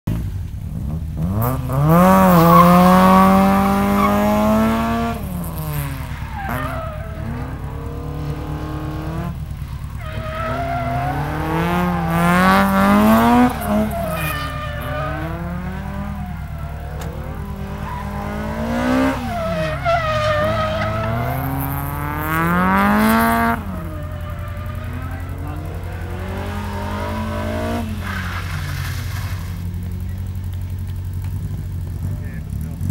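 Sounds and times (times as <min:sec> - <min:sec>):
car engine revving: 0:00.1 - 0:32.9
tyres skidding and squealing: 0:00.2 - 0:32.9.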